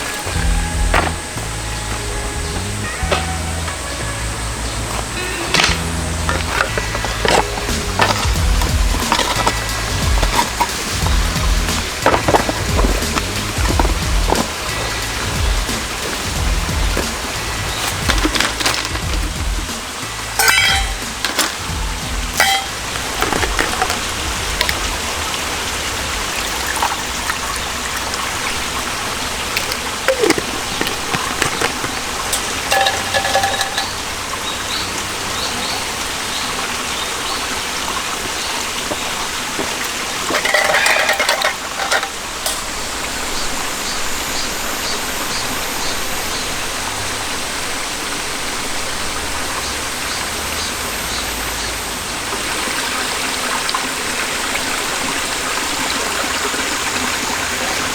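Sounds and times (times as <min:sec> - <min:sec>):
stream running over rocks: 0:00.0 - 0:57.9.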